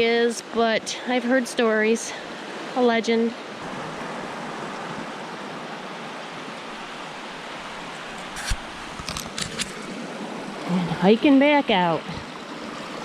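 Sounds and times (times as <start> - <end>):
fast-flowing brook rushing: 0.3 - 13.0.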